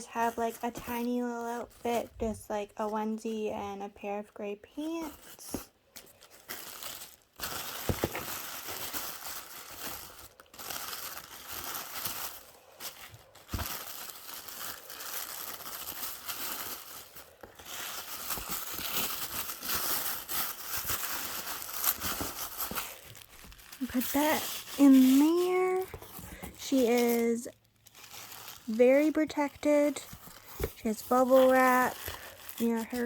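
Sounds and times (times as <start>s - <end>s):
packing material crinkling: 5.0s - 33.0s.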